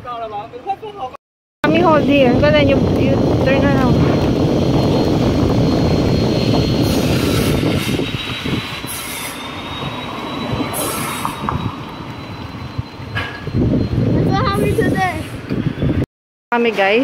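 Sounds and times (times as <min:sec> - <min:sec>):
high-pitched squeal: 0:01.7 - 0:16.0.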